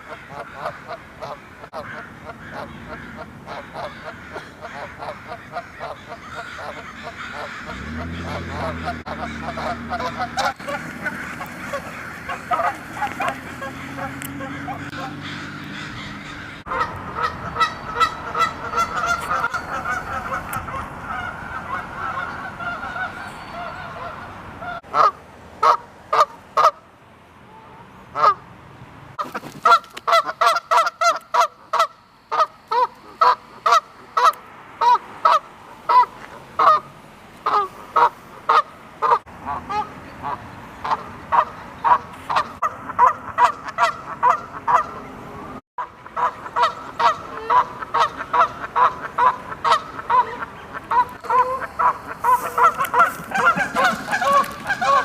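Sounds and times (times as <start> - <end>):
geese honking: 0.0 - 26.8, 27.5 - 28.4, 29.2 - 55.0.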